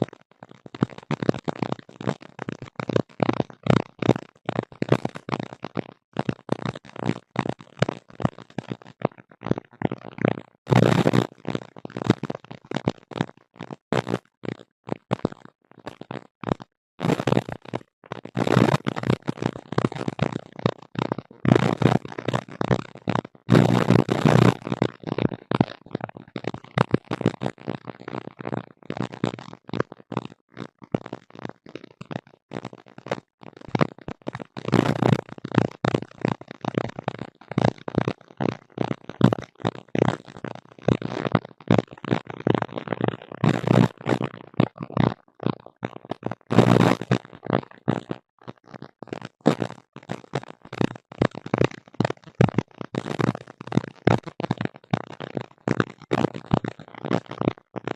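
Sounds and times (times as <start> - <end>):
crackling interference noise: 0.0 - 57.9.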